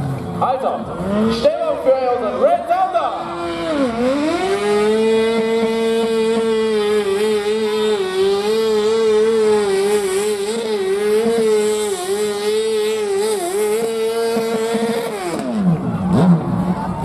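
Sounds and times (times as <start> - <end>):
tractor engine at full throttle: 0.0 - 17.0.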